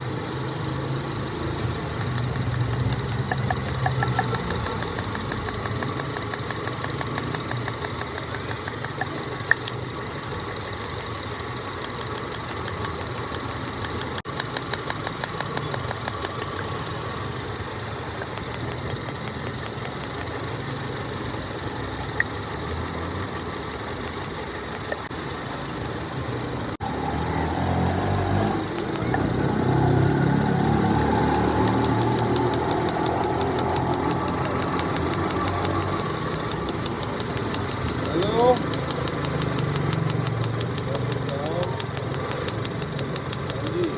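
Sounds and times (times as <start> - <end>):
car engine idling: 0.0 - 43.9
rapid regular ticking: 1.0 - 10.4, 11.6 - 22.4, 28.6 - 43.9.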